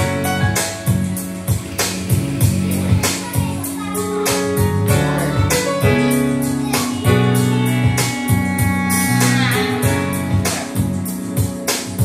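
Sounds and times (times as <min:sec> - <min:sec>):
steady beat: 0:00.0 - 0:12.0.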